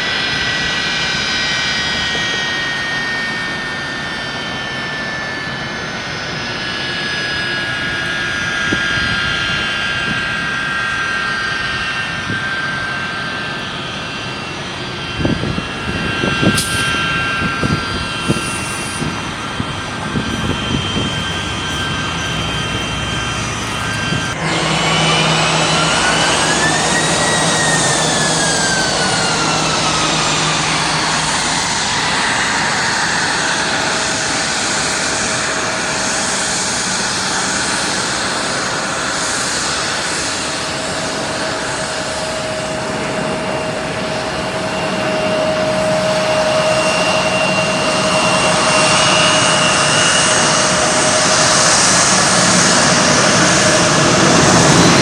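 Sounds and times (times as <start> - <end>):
jet airliner engine noise: 0.0 - 55.0
jet engine whine: 0.0 - 55.0.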